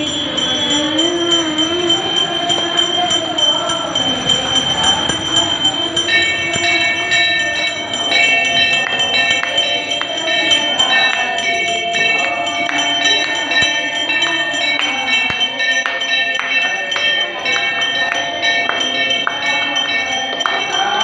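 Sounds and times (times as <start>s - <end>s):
brass bell ringing: 0.0s - 21.0s.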